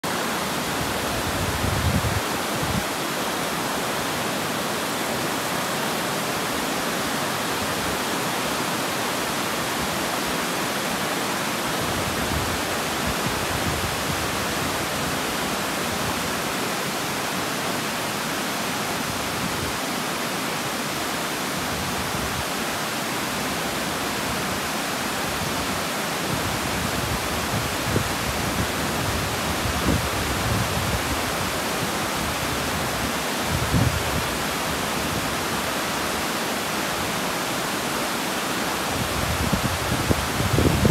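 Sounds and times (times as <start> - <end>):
water rushing over weir: 0.0 - 40.9.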